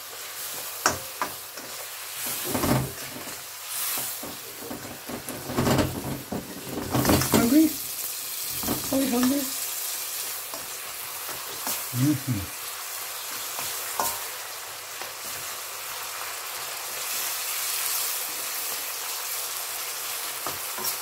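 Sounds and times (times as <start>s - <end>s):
mushrooms sizzling in sauce: 0.0s - 21.0s.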